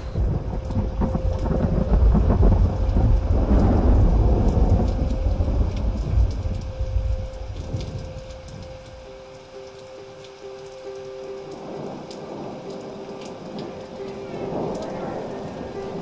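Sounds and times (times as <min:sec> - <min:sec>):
rolling thunder: 0:00.0 - 0:09.1, 0:11.6 - 0:16.0.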